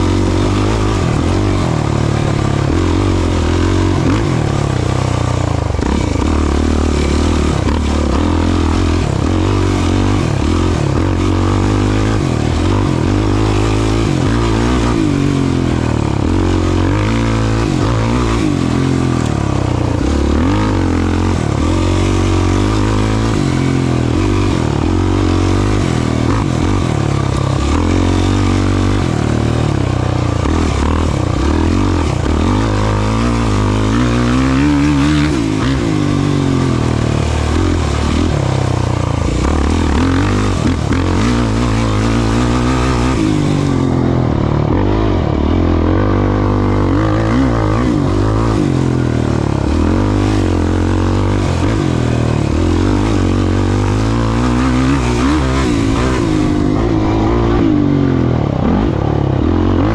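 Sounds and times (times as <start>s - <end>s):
race vehicle engine revving: 0.0s - 59.9s.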